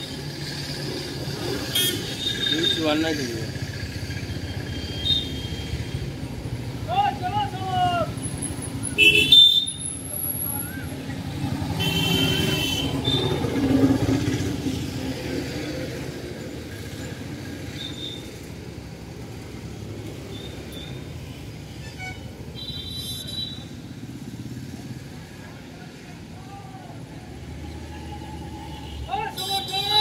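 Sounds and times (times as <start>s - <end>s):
steady traffic noise: 0.0s - 30.0s.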